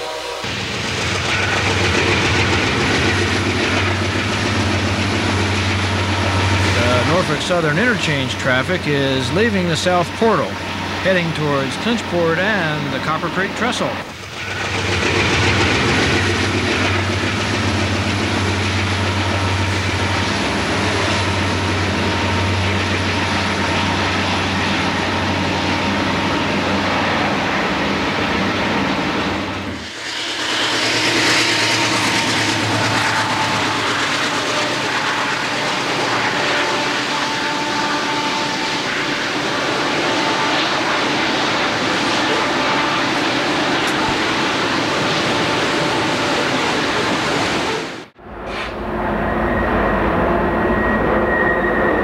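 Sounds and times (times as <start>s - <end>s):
diesel locomotive engine drone: 0.0s - 52.0s
train wheel and rail noise: 0.0s - 52.0s.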